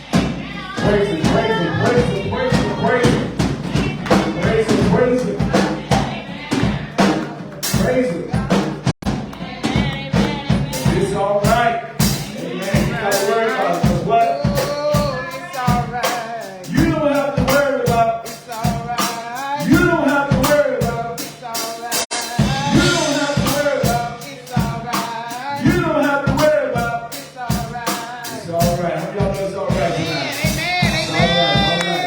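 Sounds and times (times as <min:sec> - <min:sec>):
drum kit beat: 0:00.0 - 0:32.0
gospel praise band music: 0:00.0 - 0:32.0.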